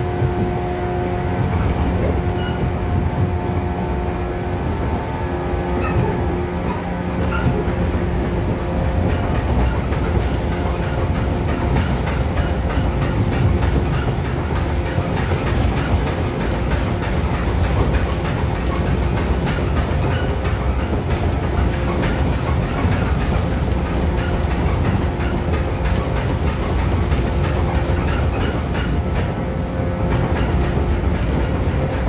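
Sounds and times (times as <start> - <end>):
train running rumble: 0.0 - 32.0
wheels clicking over rail joints: 0.0 - 32.0.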